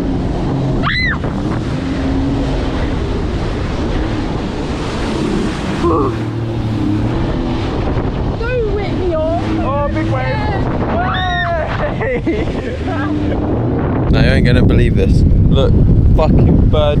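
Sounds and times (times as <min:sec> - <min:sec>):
low motor hum: 0:00.0 - 0:17.0
wind rushing over microphone: 0:00.0 - 0:17.0.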